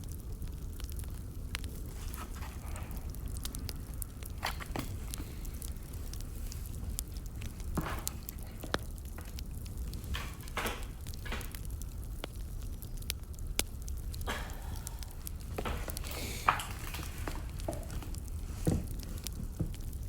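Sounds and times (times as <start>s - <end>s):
fire low rumble: 0.0s - 20.0s
fire rushes: 0.0s - 20.0s
wood fire crackling and popping: 0.0s - 20.0s.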